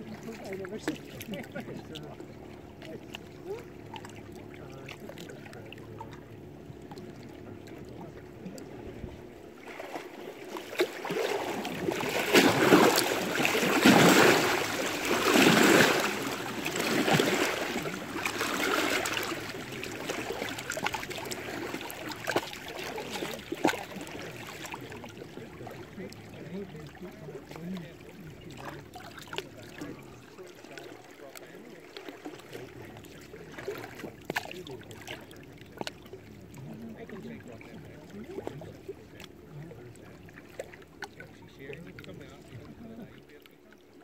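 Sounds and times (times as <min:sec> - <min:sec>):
water lapping against rocks: 0:00.0 - 0:44.0.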